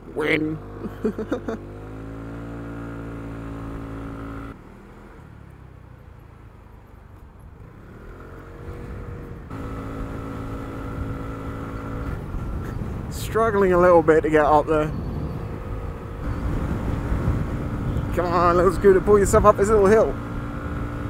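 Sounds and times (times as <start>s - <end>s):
wind and road noise: 0.0s - 21.0s
scooter engine running: 0.2s - 21.0s.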